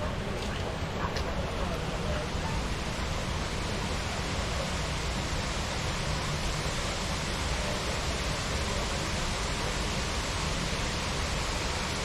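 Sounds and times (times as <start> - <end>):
waterfall rushing and splashing: 0.1 - 12.0.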